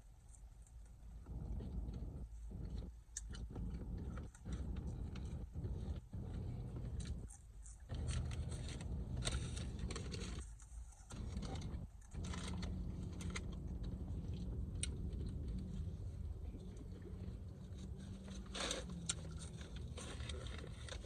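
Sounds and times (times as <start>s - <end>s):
crackles: 0.0s - 21.0s
hash brown being chewed: 0.4s - 21.0s.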